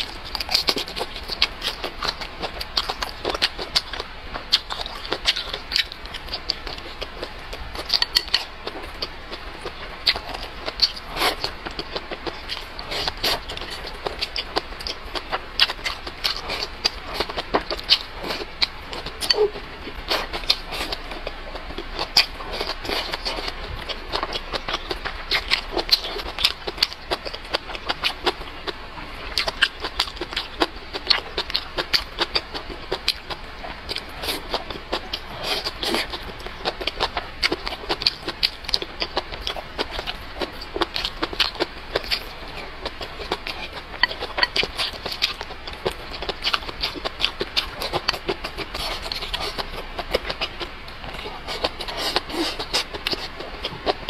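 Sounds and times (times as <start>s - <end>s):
chewing and lip-smacking: 0.0s - 54.0s.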